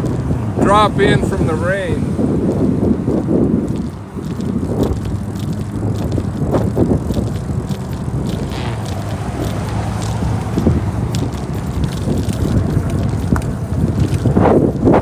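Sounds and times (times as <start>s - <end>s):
bicycle rattling and ticking: 0.0s - 1.4s, 2.2s - 15.0s
wind buffeting microphone: 0.0s - 15.0s.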